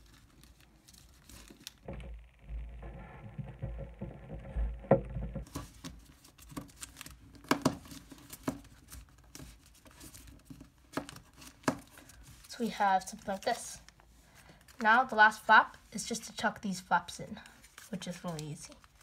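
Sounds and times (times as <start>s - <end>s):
paper crinkling and rustling: 0.0s - 19.0s.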